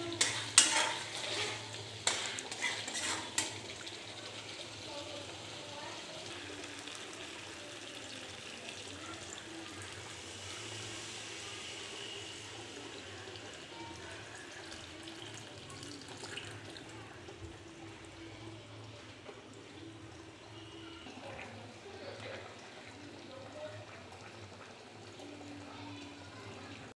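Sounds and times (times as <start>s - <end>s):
water pouring into a pan: 0.0s - 26.9s.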